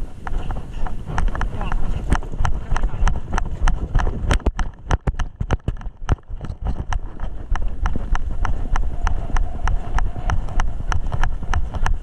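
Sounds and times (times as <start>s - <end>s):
jogging footsteps with gear knocks: 0.0s - 12.0s
wind rumble: 0.0s - 12.0s.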